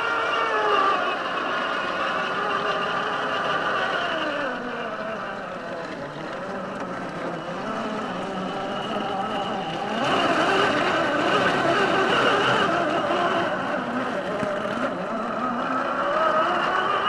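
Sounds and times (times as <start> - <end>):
electric motor and gearbox whining: 0.0 - 17.0.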